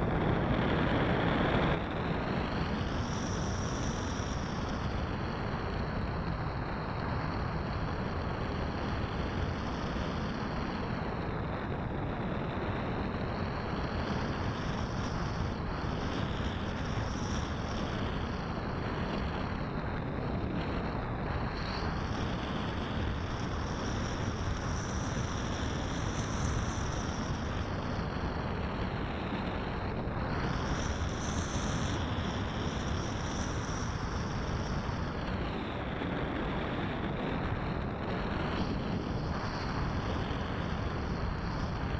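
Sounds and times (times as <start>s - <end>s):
faint high motor whine: 0.0s - 41.9s
wind buffeting microphone: 0.0s - 41.9s.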